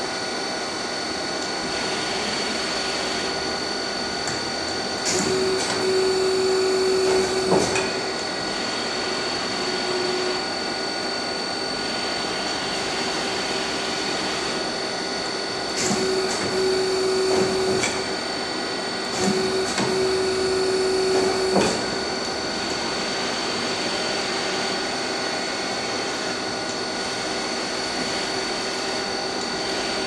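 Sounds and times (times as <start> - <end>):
lathe machine drone: 0.0 - 30.0.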